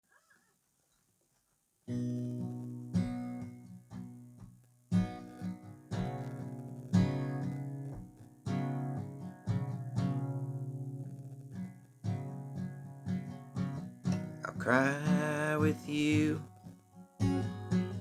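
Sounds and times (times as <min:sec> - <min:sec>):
guitar chords strummed: 0:01.9 - 0:18.0.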